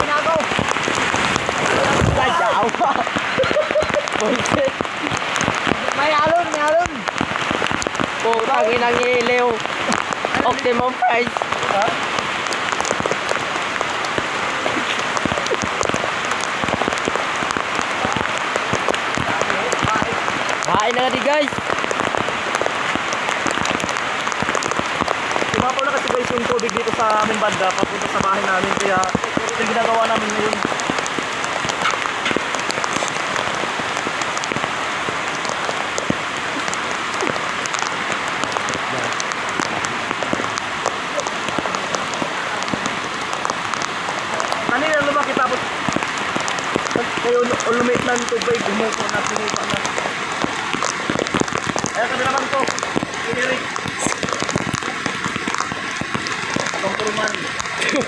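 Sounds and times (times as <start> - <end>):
heavy rain hissing: 0.0 - 58.0
raindrops pattering: 0.0 - 58.0.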